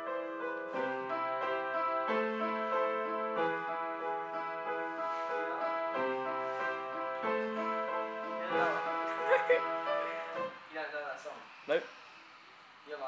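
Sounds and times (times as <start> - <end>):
slow piano melody: 0.0 - 10.7.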